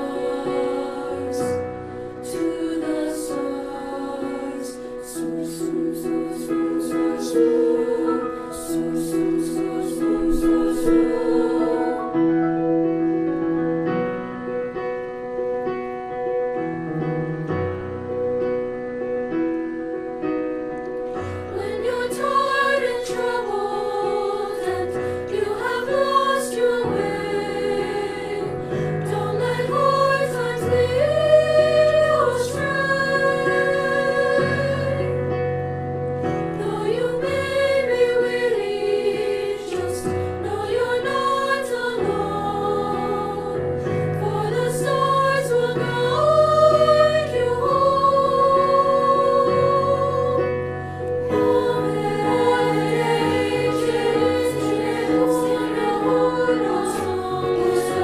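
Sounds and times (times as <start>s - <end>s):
choir singing: 0.0s - 14.2s, 21.0s - 58.0s
piano accompaniment: 0.0s - 58.0s.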